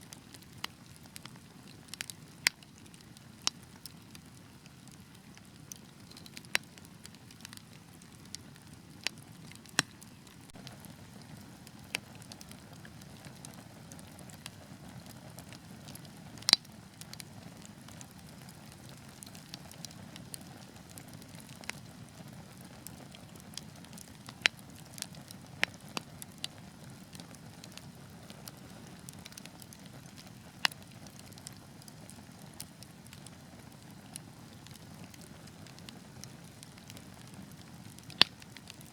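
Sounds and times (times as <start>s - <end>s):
fire crackling and popping: 0.0s - 38.9s
wood fire hissing: 0.2s - 38.9s.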